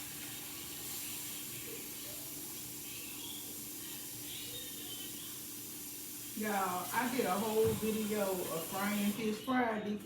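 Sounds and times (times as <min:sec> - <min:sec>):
fish sizzling in hot oil: 0:00.0 - 0:09.6.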